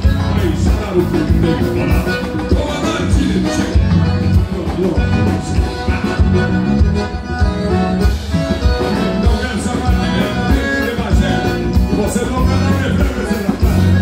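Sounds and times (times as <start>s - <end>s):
accordions playing: 0.0s - 14.0s
drum kit steady beat: 0.0s - 14.0s
electric guitar: 0.0s - 14.0s.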